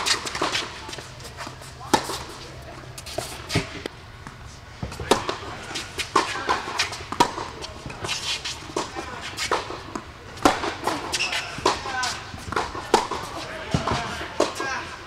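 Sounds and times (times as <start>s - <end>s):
tennis ball hitting rackets: 0.0s - 14.8s.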